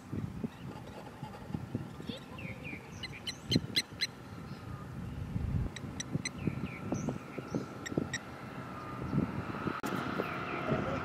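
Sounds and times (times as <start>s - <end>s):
birds chirping: 0.0s - 11.0s
light aircraft engine droning: 0.0s - 11.0s.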